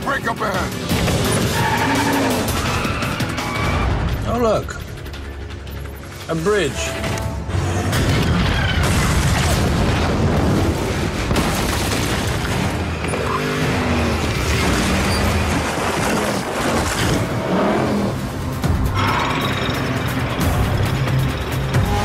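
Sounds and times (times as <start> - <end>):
background music: 0.0 - 22.0
car engines: 0.0 - 22.0.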